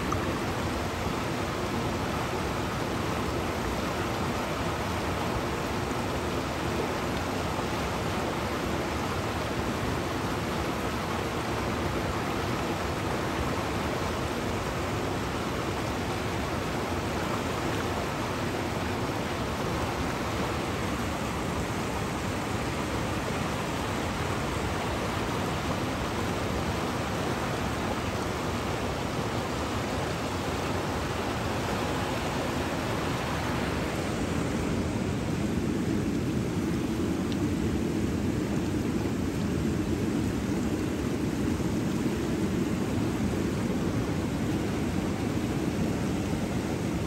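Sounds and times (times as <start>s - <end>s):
river rushing through rapids: 0.0s - 47.0s.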